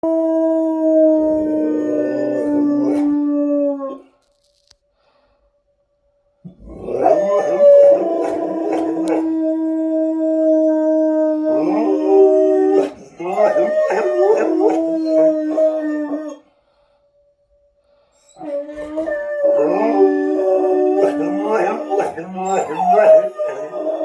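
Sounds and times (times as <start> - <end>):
dogs howling: 0.0 - 4.1, 6.5 - 16.4, 18.3 - 24.0.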